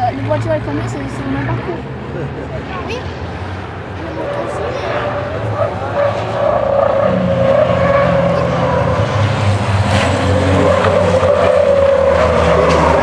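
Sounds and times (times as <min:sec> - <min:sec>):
high engine whine: 0:00.0 - 0:13.0
truck diesel engine drone: 0:00.0 - 0:13.0.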